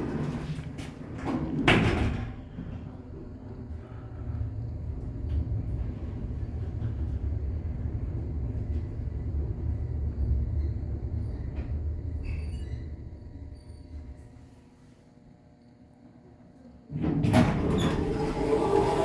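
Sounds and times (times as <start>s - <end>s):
elevator car rumbling: 0.0s - 14.1s, 17.0s - 19.0s.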